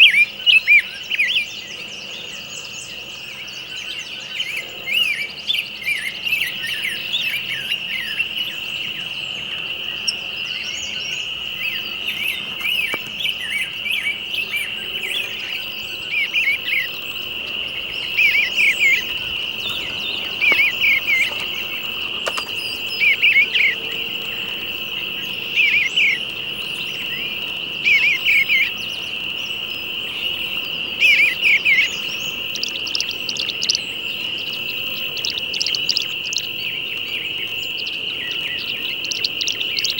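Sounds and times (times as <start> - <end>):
high insect trill: 0.0 - 39.9
songbird singing: 0.0 - 39.9.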